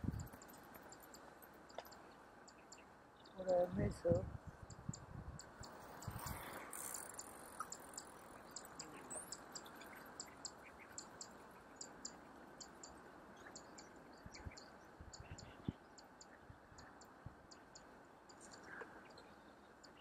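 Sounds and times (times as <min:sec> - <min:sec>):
insect ticking chirps: 0:00.0 - 0:03.4, 0:04.7 - 0:19.2.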